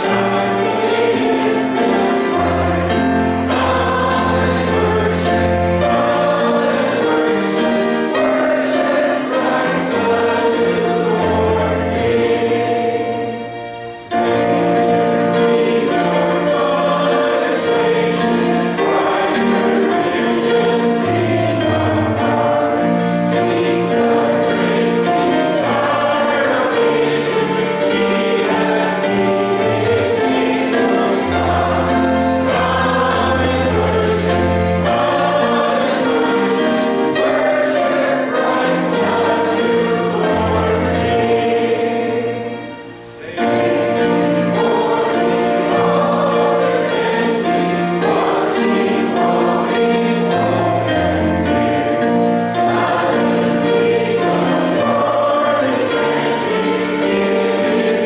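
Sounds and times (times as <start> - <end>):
congregation singing a hymn: 0.0 - 58.0
instrumental accompaniment: 0.0 - 58.0.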